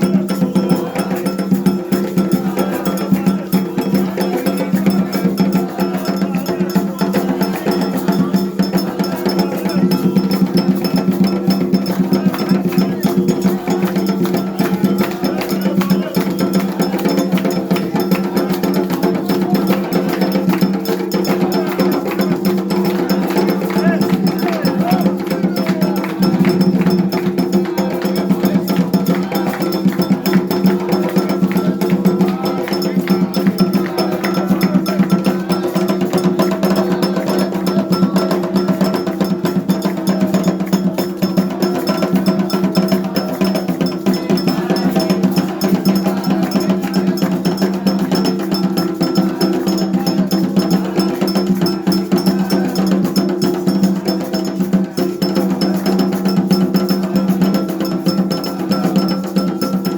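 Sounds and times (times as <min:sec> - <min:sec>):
hand drums: 0:00.0 - 0:59.9.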